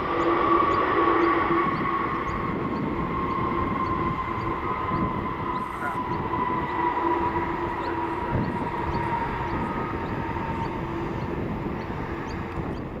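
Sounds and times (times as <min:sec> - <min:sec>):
jet engine whine and rumble: 0:00.0 - 0:13.0.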